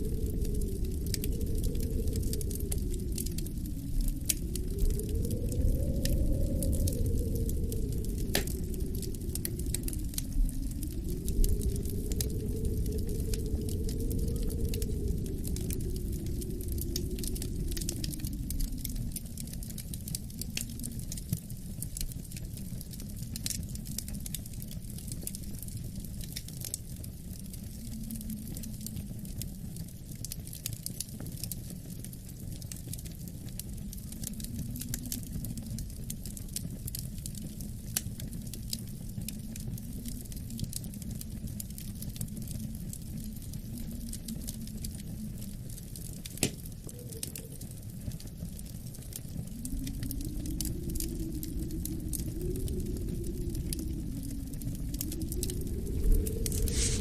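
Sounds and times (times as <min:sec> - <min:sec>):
low wind rumble: 0:00.0 - 0:57.0
wood fire crackling and popping: 0:00.0 - 0:57.0.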